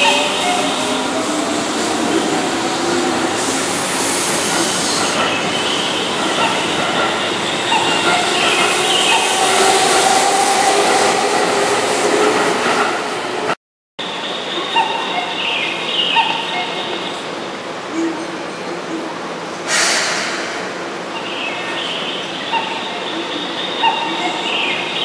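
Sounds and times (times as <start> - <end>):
train wheels rumbling on rail: 0.0 - 13.6, 16.2 - 23.2.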